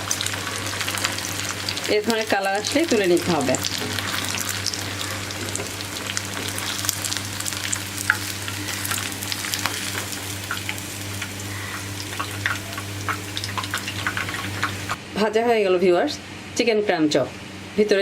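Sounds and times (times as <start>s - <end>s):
oil sizzling and popping: 0.0s - 15.0s
steady low hum: 0.0s - 18.0s.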